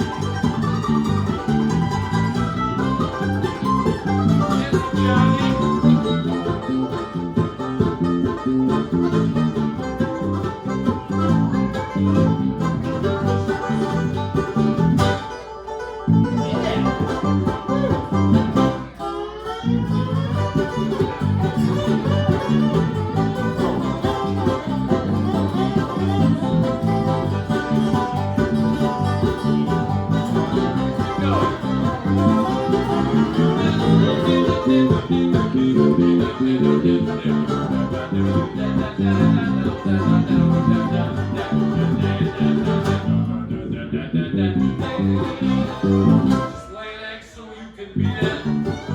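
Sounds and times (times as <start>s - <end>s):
bass line: 0.0s - 15.4s, 16.1s - 19.0s, 19.6s - 46.6s, 48.0s - 48.9s
fast picked banjo: 0.0s - 46.9s, 48.0s - 48.9s
guitar: 0.0s - 48.9s.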